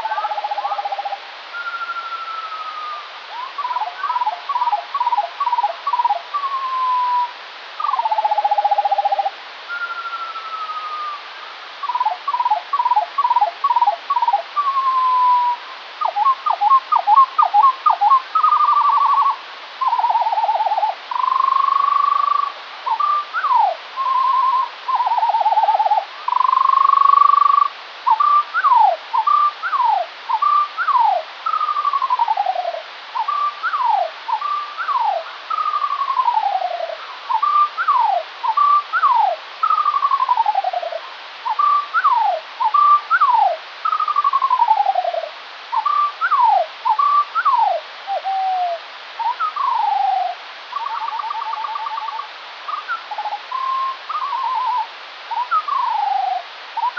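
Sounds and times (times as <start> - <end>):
slowed birdsong low whistled notes: 0.0 - 56.9
steady hiss: 0.0 - 56.9.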